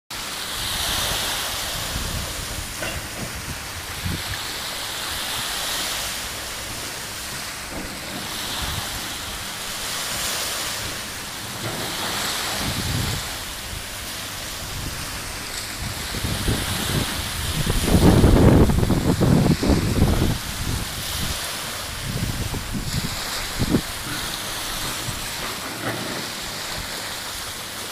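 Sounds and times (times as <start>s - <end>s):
small waves washing on sand: 0.1s - 27.9s
wind buffeting microphone: 0.5s - 27.7s.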